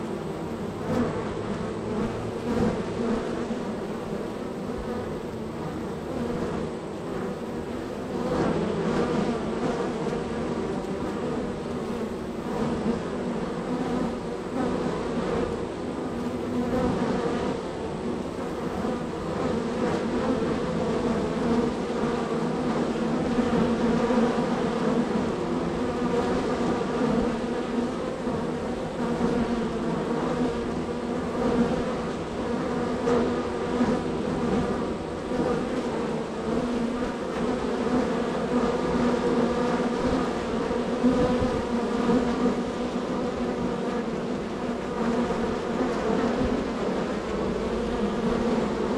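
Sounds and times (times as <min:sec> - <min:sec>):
bees buzzing: 0:00.0 - 0:48.9.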